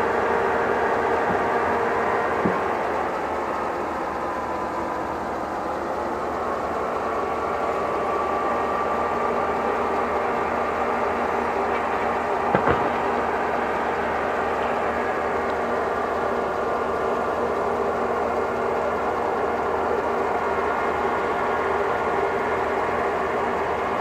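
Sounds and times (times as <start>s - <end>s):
diesel machinery running: 0.0s - 24.0s
faint whine: 0.0s - 24.0s.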